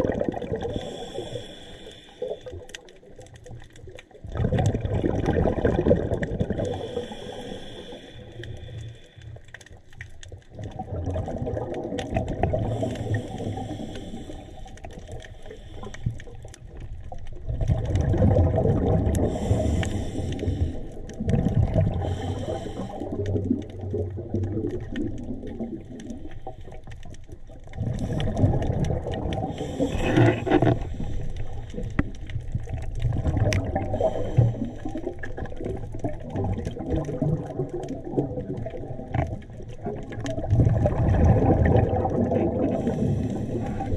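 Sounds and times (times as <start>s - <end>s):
underwater breath bubbling: 0.0s - 43.9s.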